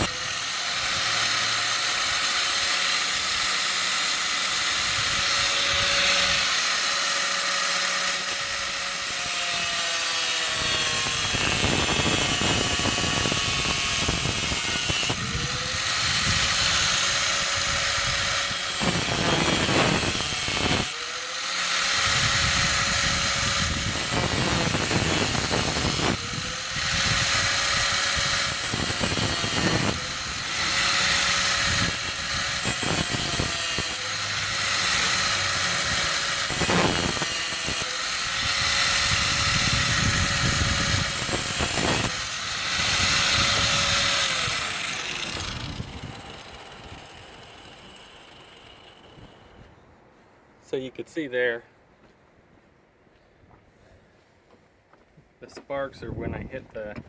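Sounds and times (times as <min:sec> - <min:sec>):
angle grinder cutting metal: 0:00.0 - 0:49.6.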